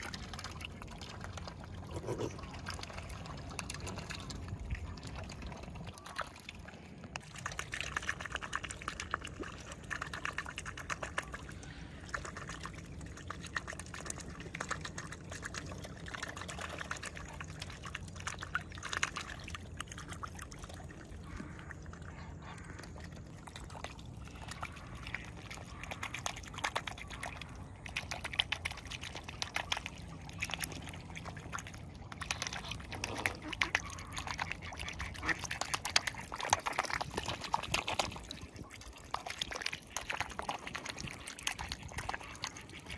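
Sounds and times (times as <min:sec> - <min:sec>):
swans splashing water surface: 0:00.0 - 0:42.9.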